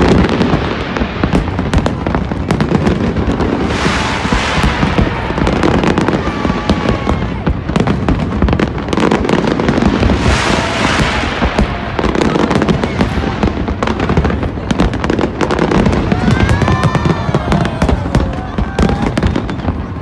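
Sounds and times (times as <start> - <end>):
hissing crackling firework burst: 0.0 - 19.9
fireworks bangs and crackles: 0.0 - 20.0.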